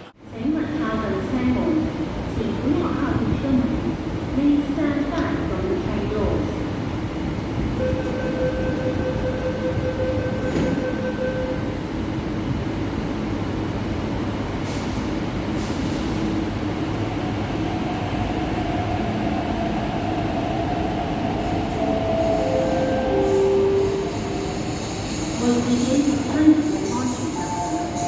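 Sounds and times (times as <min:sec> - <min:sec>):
metro train rumble: 0:00.0 - 0:28.0.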